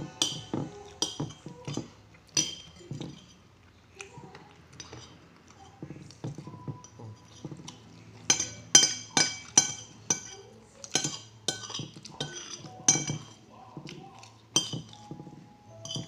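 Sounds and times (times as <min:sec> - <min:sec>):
spoon clinking against a plate: 0:00.0 - 0:03.4, 0:04.7 - 0:16.0.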